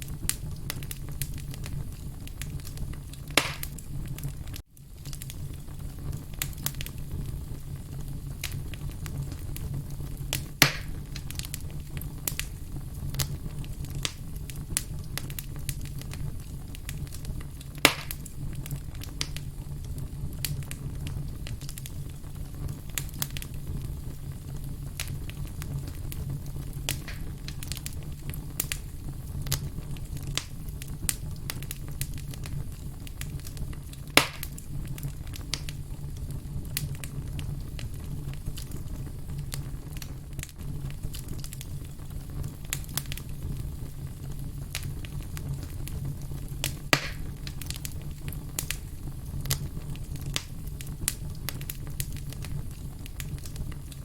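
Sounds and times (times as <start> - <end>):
campfire crackling: 0.0 - 54.0
loud fire snaps: 0.0 - 54.0
low rumble of burning fire: 0.0 - 54.0.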